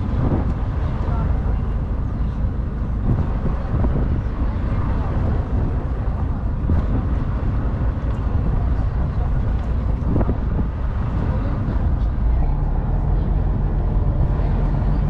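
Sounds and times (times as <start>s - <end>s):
ferry engine rumble: 0.0s - 15.0s.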